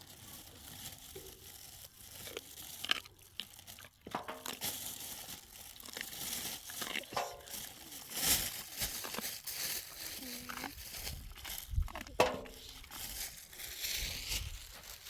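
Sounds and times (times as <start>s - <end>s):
crinkling handling noise: 0.0s - 15.0s.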